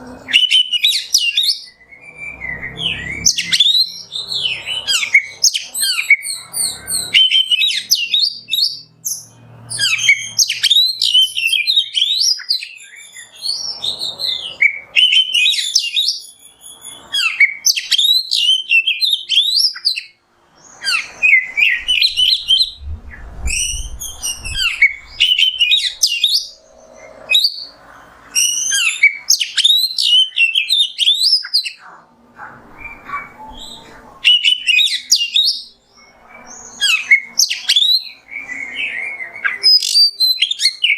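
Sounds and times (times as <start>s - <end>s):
bird singing whistles and chirps: 0.1s - 31.9s, 32.8s - 40.9s.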